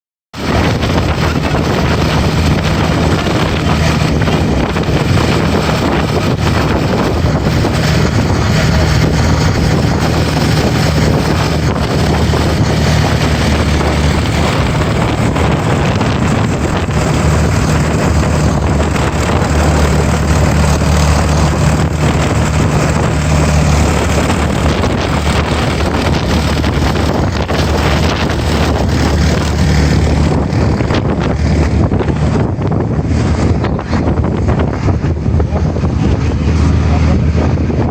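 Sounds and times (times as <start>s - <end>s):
boat engine running: 0.3s - 37.9s
wind buffeting microphone: 0.3s - 37.9s.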